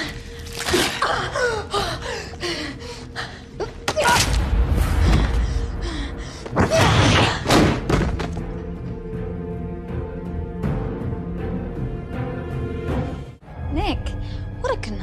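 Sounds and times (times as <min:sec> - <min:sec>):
dramatic music: 0:00.0 - 0:15.0.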